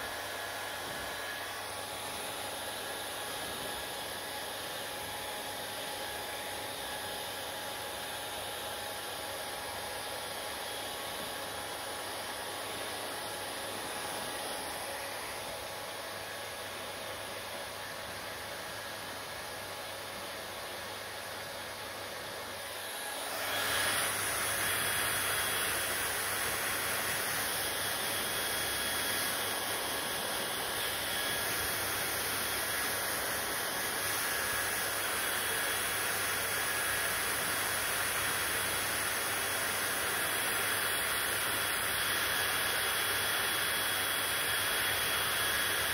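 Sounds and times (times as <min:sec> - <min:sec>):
hair dryer blowing: 0:00.0 - 0:45.9.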